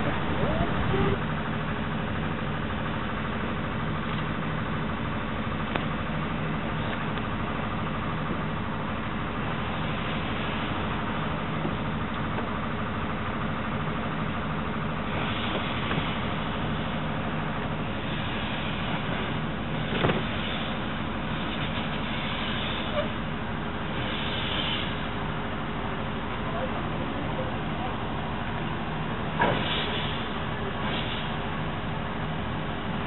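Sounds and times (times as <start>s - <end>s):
steam locomotive hissing and humming: 0.0s - 33.0s.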